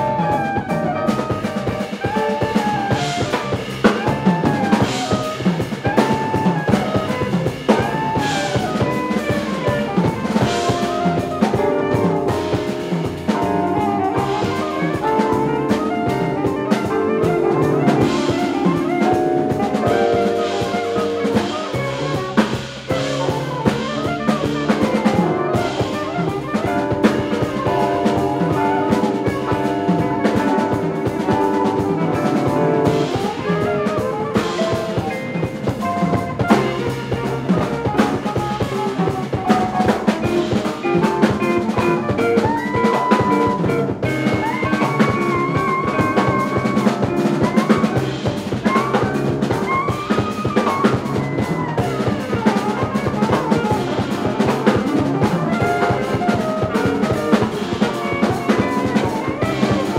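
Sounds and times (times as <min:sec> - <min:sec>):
jazz quintet playing blues: 0:00.0 - 0:59.9.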